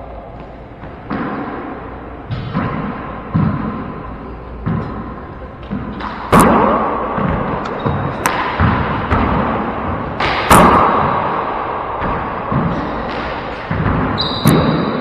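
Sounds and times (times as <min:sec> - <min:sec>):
handball hits echoing: 0:00.4 - 0:15.0.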